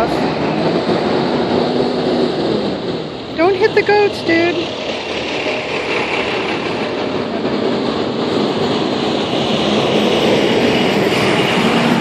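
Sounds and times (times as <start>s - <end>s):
heavy truck engines: 0.0s - 12.0s.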